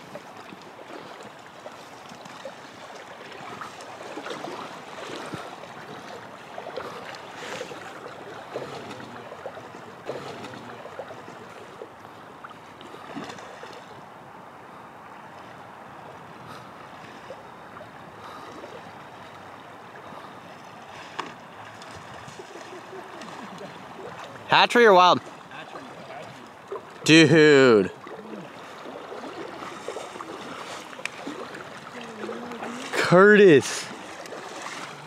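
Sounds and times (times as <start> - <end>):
river water rushing and splashing: 0.0 - 35.0.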